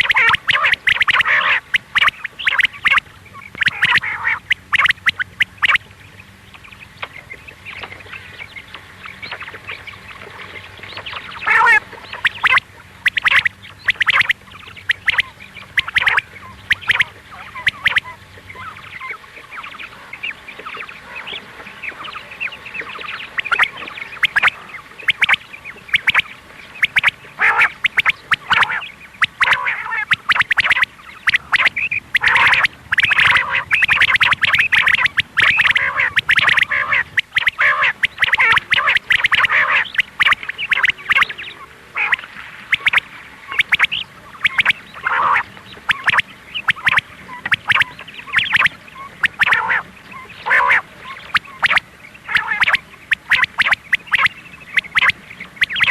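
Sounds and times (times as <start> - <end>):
quail calls: 0.0 - 55.9.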